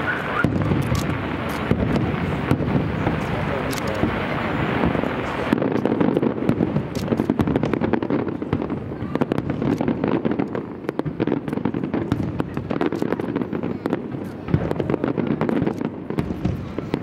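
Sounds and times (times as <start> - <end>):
continuous rumble: 0.0 - 17.0
fireworks bangs and crackles: 0.0 - 17.0.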